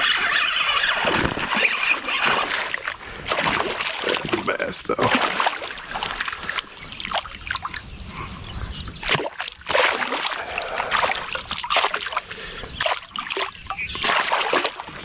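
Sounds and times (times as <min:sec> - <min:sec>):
fish splashing at surface: 0:01.0 - 0:07.8, 0:09.0 - 0:15.0.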